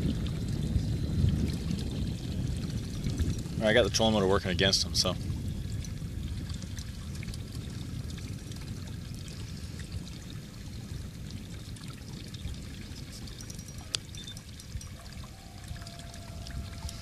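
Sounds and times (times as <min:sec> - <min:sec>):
water rushing around boat: 0:00.0 - 0:17.0.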